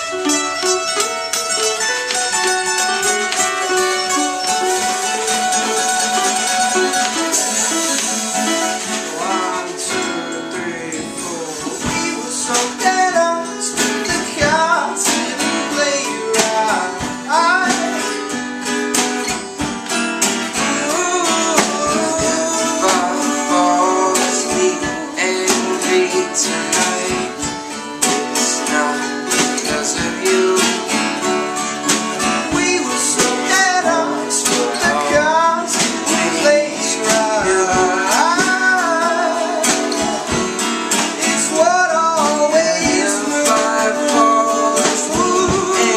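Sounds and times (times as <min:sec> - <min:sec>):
sliding melody line: 0:00.0 - 0:45.9
strummed guitars: 0:00.0 - 0:45.9.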